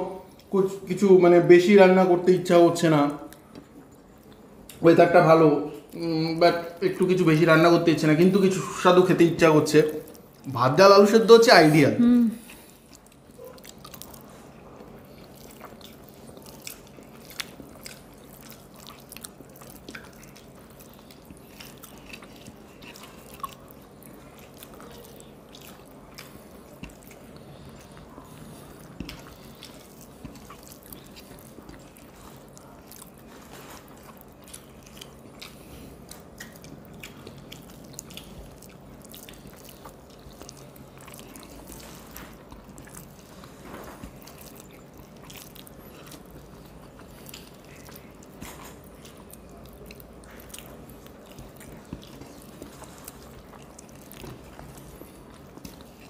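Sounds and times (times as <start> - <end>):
faint steady hum: 0.0 - 56.0
chewing and lip smacks: 3.0 - 4.8, 12.4 - 56.0.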